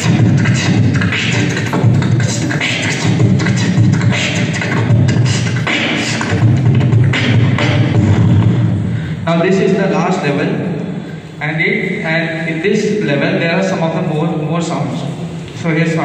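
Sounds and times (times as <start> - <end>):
beatboxing into a microphone: 0.0 - 16.0.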